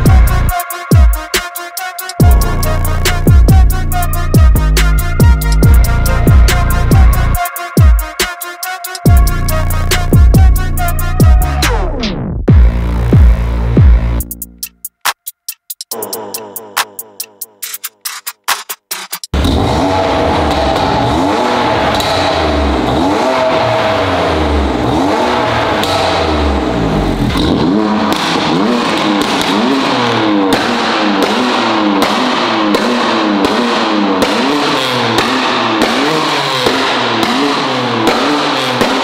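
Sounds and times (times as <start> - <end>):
car engine revving with pops: 0.0 - 0.6, 2.2 - 7.4, 9.0 - 15.9, 17.2 - 39.0.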